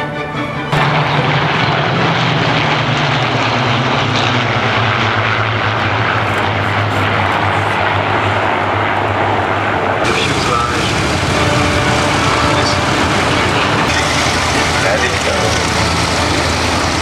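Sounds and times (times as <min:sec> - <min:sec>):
propeller aircraft flying past: 0:00.0 - 0:17.0.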